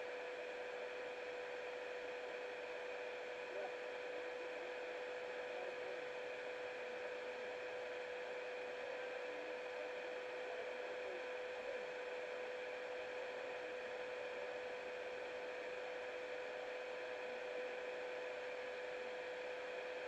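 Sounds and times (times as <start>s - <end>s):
camera recording hiss and hum: 0.0s - 20.0s.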